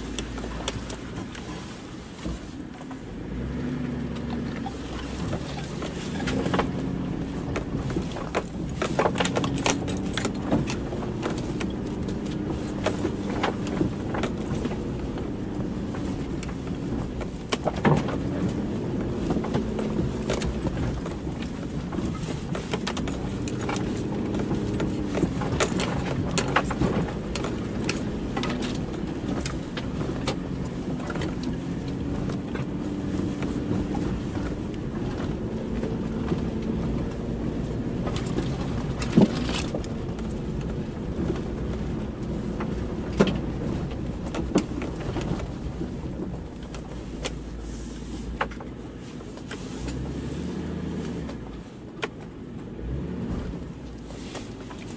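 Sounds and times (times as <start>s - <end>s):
vehicle body knocking and scraping: 0.0s - 54.9s
vehicle engine at low revs: 0.0s - 54.9s.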